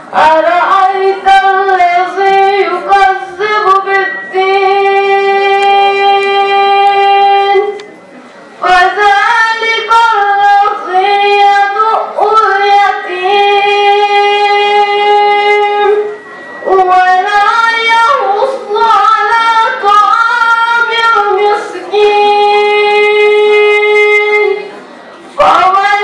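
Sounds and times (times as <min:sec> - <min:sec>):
high voice chanting recitation: 0:00.0 - 0:08.0, 0:08.6 - 0:26.0.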